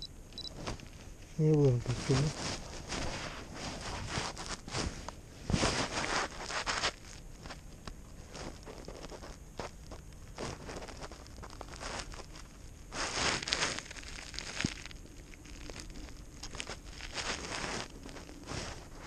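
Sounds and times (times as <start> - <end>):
fabric rubbing on microphone: 1.6 - 7.6, 8.2 - 14.6, 15.9 - 19.0.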